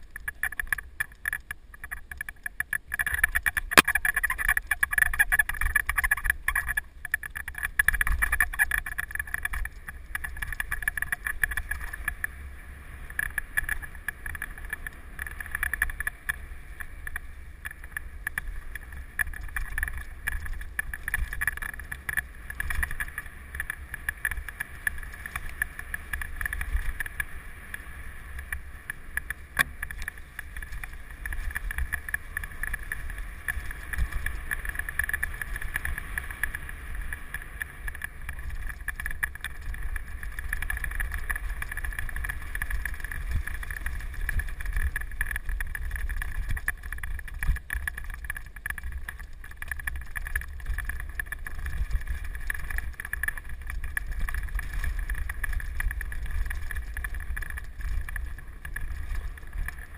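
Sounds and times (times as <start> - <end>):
wind and tyre rumble: 0.0 - 59.9.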